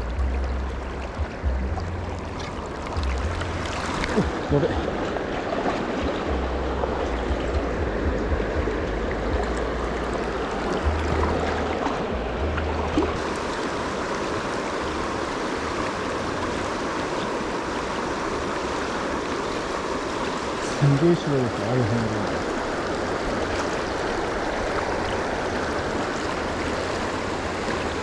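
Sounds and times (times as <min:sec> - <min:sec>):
low uneven rumble: 0:00.0 - 0:28.0
river rushing over shallows: 0:00.0 - 0:28.0.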